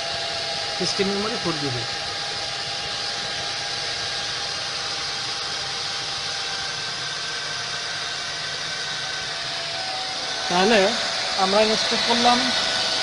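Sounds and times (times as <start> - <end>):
server cooling fans running: 0.0 - 13.0.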